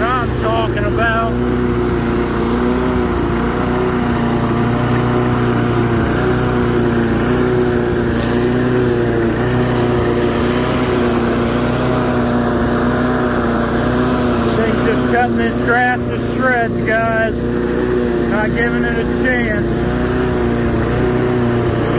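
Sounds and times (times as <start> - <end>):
lawn mower engine running: 0.0 - 21.9.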